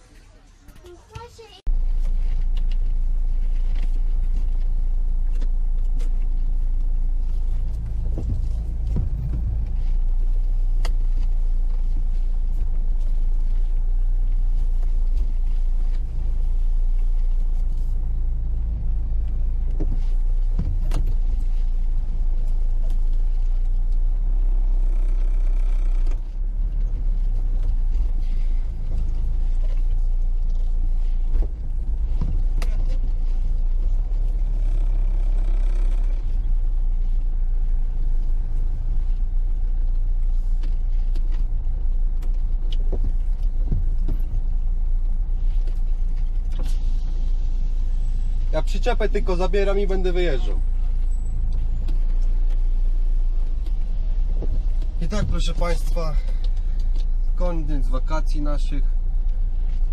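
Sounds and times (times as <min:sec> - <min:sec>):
car driving on gravel: 0:00.0 - 0:59.9
car engine and road rumble: 0:00.0 - 0:59.9.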